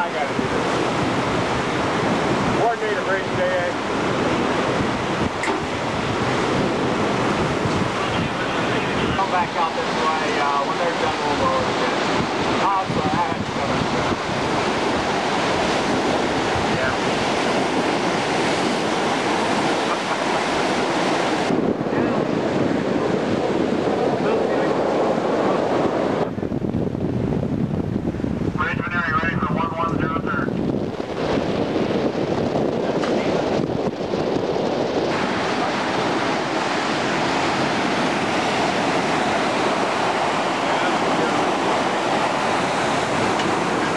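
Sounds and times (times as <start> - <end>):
seawater rushing along a hull: 0.0 - 43.9
wind buffeting microphone: 0.0 - 43.9.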